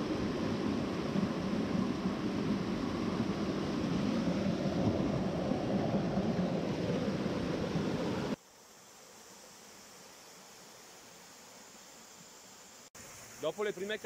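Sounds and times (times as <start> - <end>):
faint steady hush: 0.0 - 14.0.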